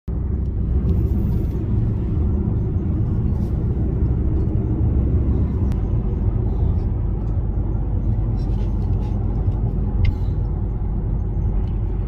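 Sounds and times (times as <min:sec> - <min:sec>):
tyre and road noise: 0:00.1 - 0:12.0.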